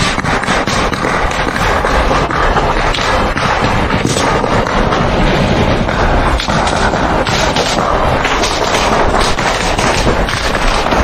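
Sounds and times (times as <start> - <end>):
rapid gunfire: 0.0 - 11.0.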